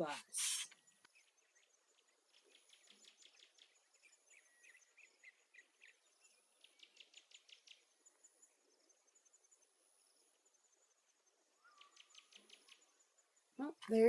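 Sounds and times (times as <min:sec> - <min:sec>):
faint high-pitched chirping: 0:00.0 - 0:14.0.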